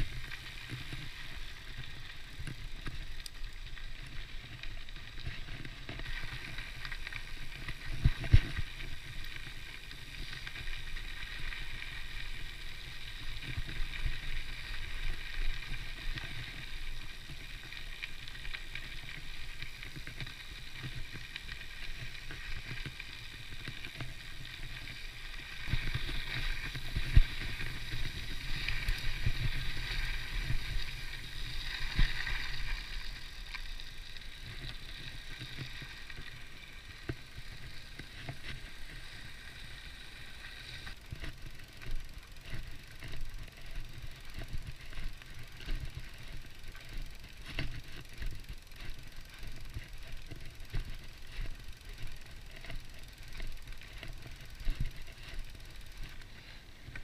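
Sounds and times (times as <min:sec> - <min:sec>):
bicycle freewheel buzz: 0:00.0 - 0:57.0
bike tyre rumble on gravel: 0:00.0 - 0:57.0.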